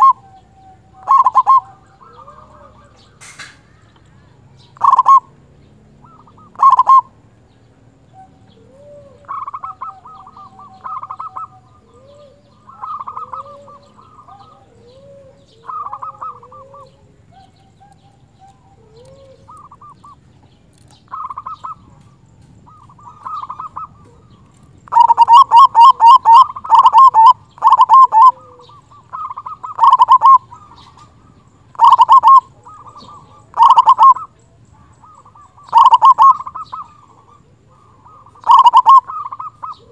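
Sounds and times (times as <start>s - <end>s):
dove cooing: 0.0s - 3.9s, 4.6s - 7.2s, 8.0s - 39.9s.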